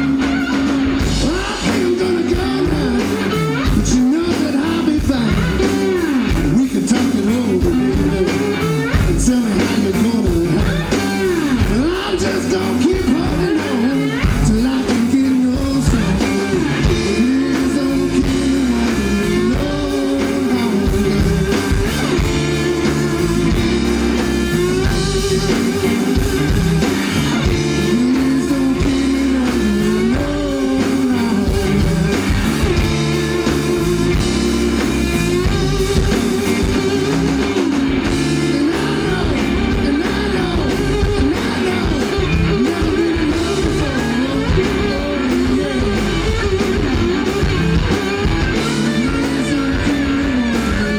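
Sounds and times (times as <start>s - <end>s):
bending lead guitar line: 0.0s - 50.9s
blues-rock band playing: 0.0s - 50.9s.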